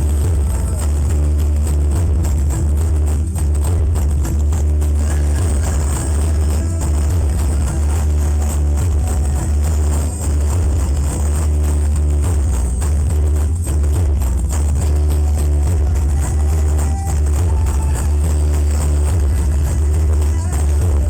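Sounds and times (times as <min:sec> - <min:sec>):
bass-heavy music on sound system: 0:00.0 - 0:21.0.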